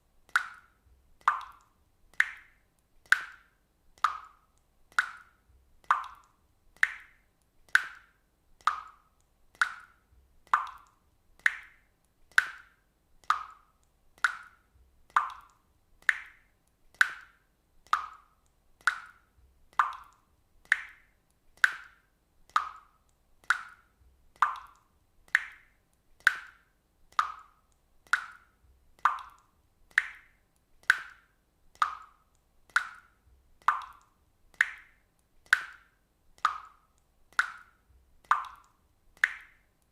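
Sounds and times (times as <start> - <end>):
water drops plopping into water: 0.3 - 39.9.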